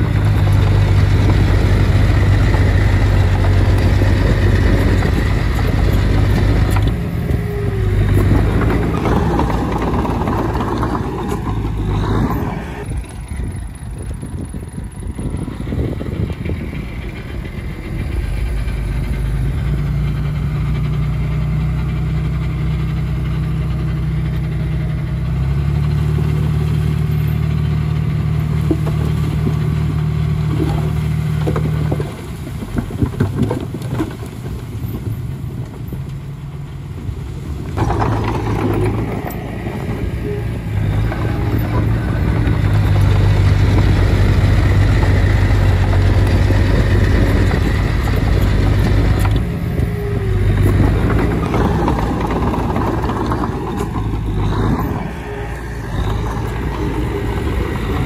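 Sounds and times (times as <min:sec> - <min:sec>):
knocks and clatter: 0:00.0 - 0:21.1, 0:28.3 - 0:36.0, 0:37.7 - 0:58.0
bulldozer diesel engine working: 0:00.0 - 0:58.0.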